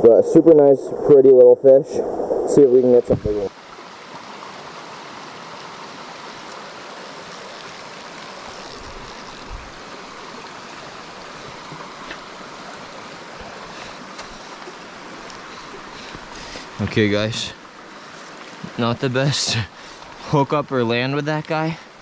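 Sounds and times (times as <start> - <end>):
stream running over stones: 2.6 - 22.0.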